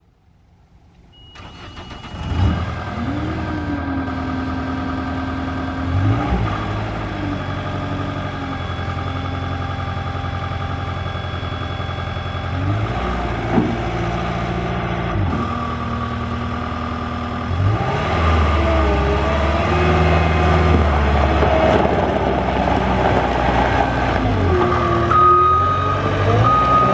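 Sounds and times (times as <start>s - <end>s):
diesel engine revving: 1.4s - 26.9s.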